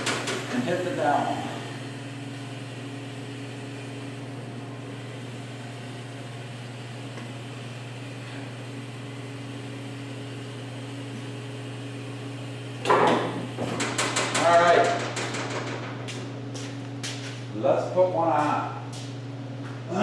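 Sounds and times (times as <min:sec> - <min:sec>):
car lift electric hum: 0:00.0 - 0:20.0.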